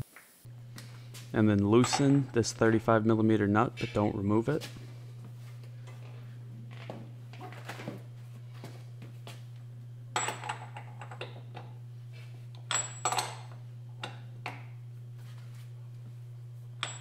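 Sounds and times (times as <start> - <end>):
steady low hum: 0.4 - 17.0.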